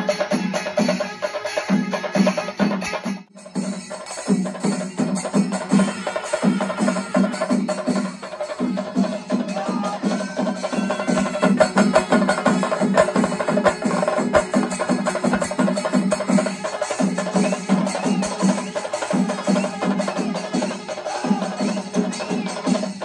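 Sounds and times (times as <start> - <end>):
ensemble of drums beating fast: 0.0 - 23.0.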